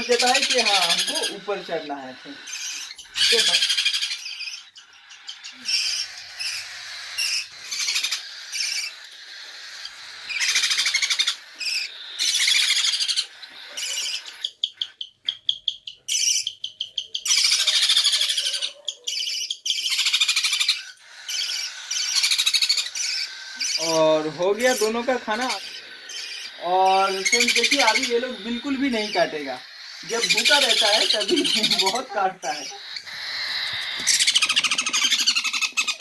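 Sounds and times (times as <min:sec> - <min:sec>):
parrot chicks begging calls: 0:00.0 - 0:36.0.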